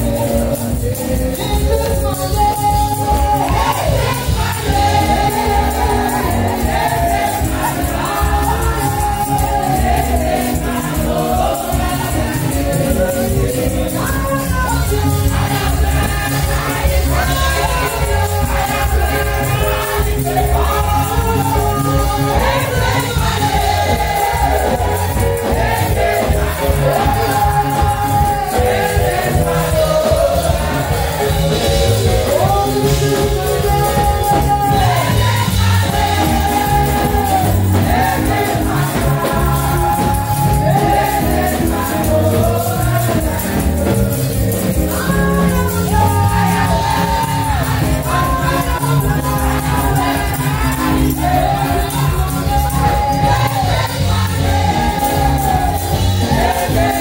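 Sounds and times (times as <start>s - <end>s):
upbeat gospel music: 0.0s - 57.0s
voices singing held lines: 0.0s - 57.0s.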